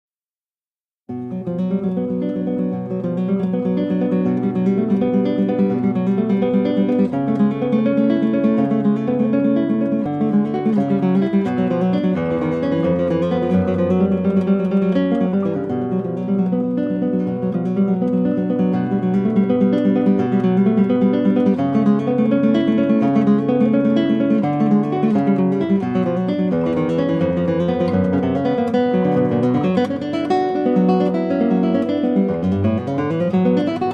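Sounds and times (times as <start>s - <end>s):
flamenco acoustic guitar: 1.1s - 33.9s.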